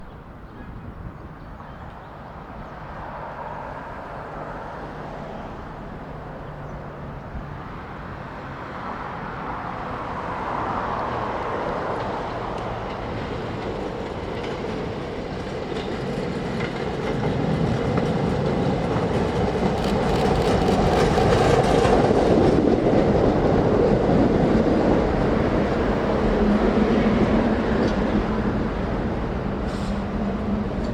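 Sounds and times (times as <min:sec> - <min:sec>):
electric train rumbling: 0:02.4 - 0:30.9.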